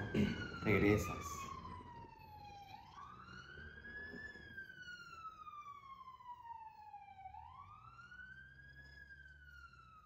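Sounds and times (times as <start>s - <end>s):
faint wailing siren: 0.0s - 10.0s.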